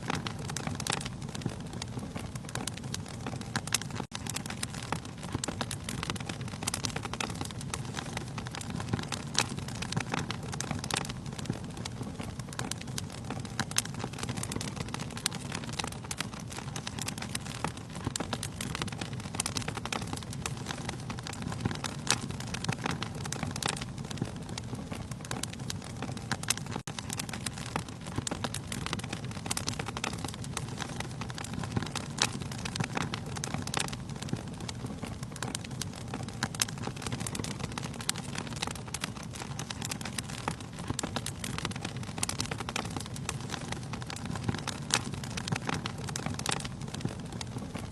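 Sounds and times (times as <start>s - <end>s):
logs crackling and popping: 0.0s - 47.9s
low rumble of flames: 0.0s - 47.9s.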